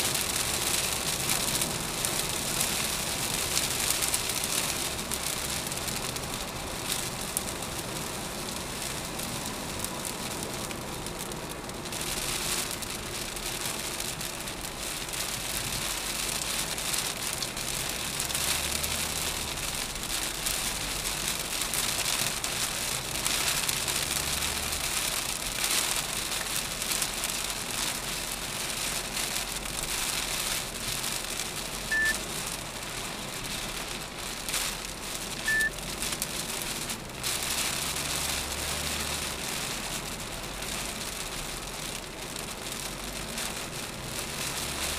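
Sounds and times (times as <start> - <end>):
heavy rain on car roof: 0.0 - 44.9
tyres hissing on wet road: 0.0 - 44.9.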